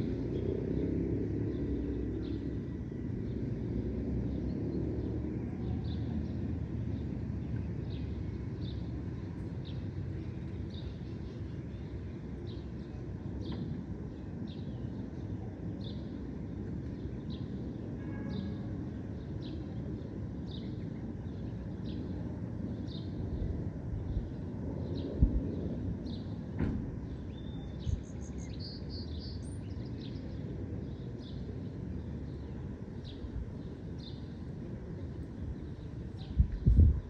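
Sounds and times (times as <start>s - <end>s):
steady low rumble: 0.0s - 17.8s, 20.9s - 37.0s.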